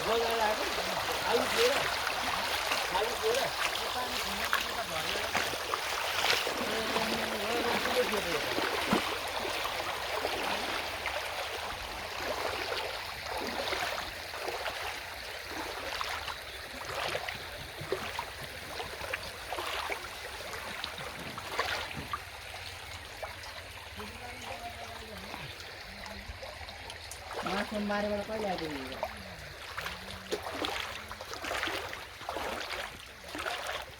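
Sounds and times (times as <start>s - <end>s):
river water flowing and splashing: 0.0s - 33.9s.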